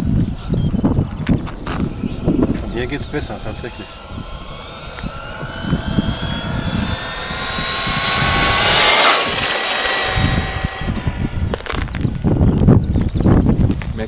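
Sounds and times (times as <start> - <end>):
electric motor high whine: 0.4 - 12.5.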